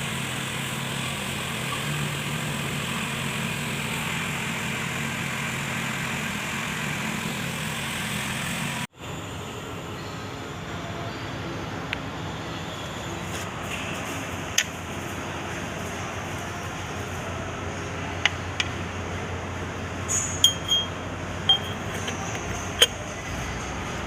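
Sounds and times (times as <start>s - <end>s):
diesel engine running: 0.0s - 10.0s, 12.1s - 24.0s.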